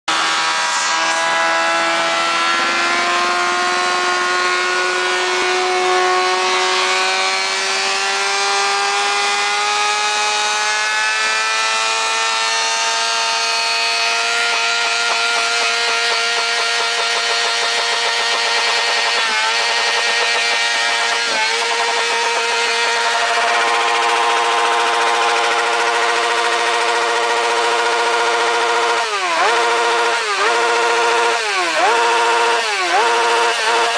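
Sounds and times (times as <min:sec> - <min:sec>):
motorcycle engine revving high: 0:00.1 - 0:33.9.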